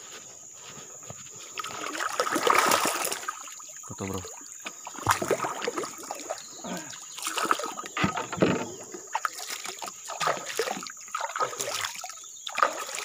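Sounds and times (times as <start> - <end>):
water splashing and trickling: 1.4 - 13.0
fish splashing in water: 1.6 - 8.3, 9.0 - 13.0.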